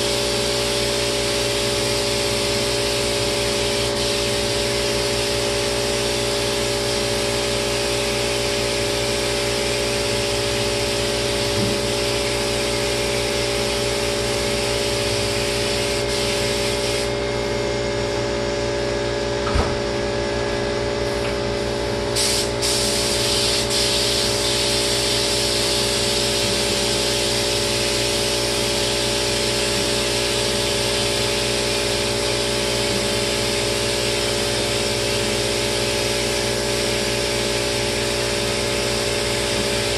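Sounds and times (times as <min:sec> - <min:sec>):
spray gun hissing: 0:00.0 - 0:17.2, 0:21.1 - 0:39.9
sprayer motor drone: 0:00.0 - 0:39.9.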